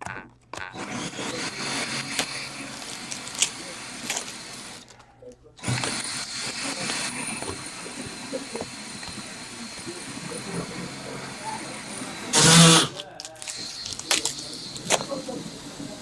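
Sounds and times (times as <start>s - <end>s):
power tool whining: 0.6s - 16.0s.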